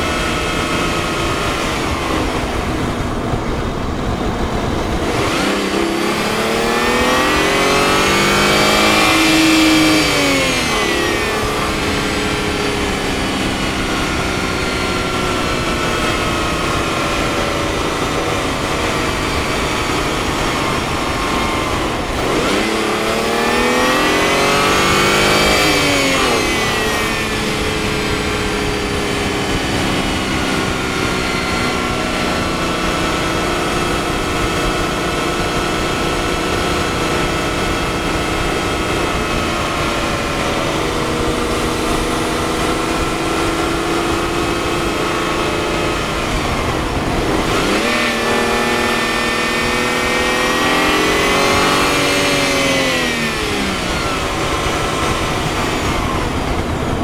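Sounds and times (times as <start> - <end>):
car engine cruising and revving: 0.0 - 57.0.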